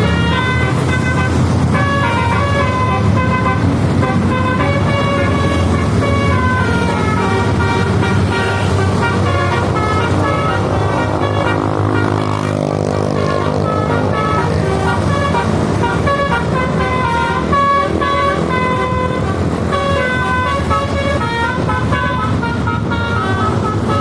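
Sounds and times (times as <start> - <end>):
bus engine rumble: 0.0 - 24.0
multi-tone bus horn tune: 0.0 - 24.0.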